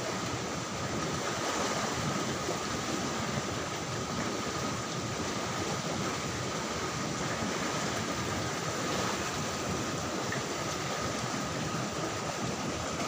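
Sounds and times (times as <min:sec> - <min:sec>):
water rushing in stone channel: 0:00.0 - 0:13.0.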